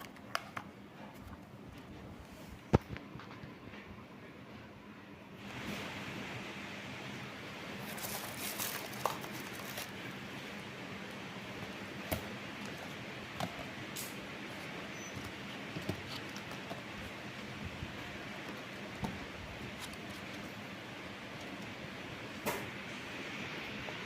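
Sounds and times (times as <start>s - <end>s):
ceiling fan running: 0.0s - 24.0s.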